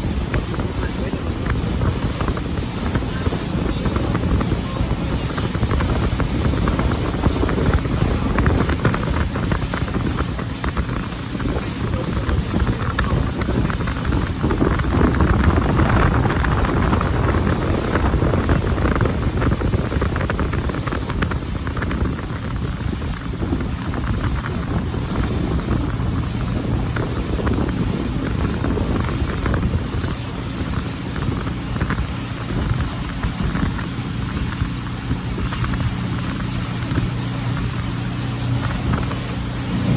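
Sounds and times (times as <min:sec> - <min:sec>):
boat engine running: 0:00.0 - 0:39.9
wind buffeting microphone: 0:00.0 - 0:39.9.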